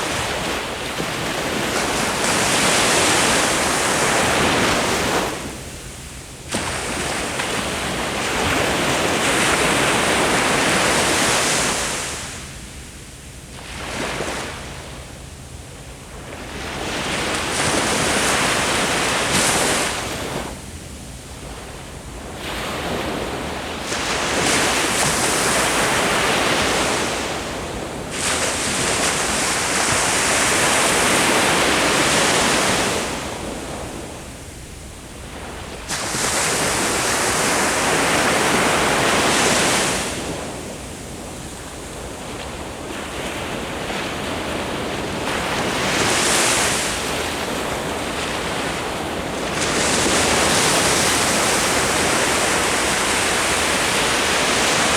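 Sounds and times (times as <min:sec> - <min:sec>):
ocean waves breaking on shore: 0:00.0 - 0:12.7, 0:13.4 - 0:54.9.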